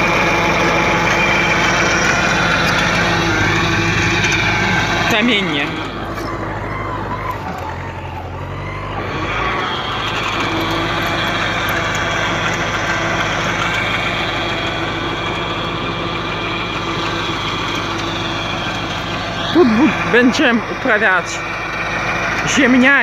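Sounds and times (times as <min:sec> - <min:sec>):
rotary tiller through soil: 0:00.0 - 0:23.0
tractor diesel engine under load: 0:00.0 - 0:23.0.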